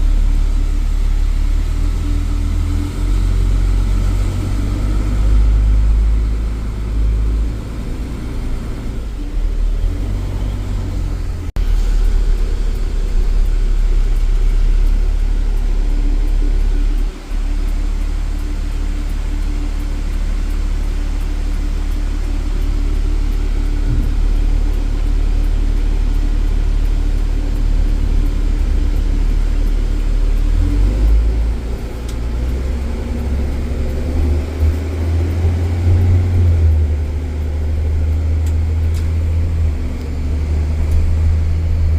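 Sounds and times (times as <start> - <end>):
road noise: 0.0 - 41.9
truck engine running: 0.0 - 41.9.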